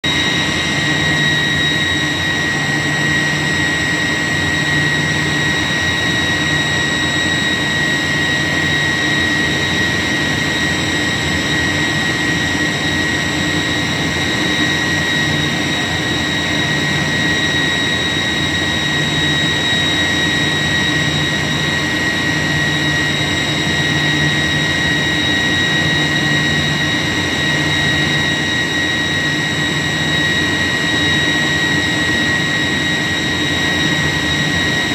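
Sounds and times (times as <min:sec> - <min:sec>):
chiller compressor whine: 0:00.0 - 0:34.9.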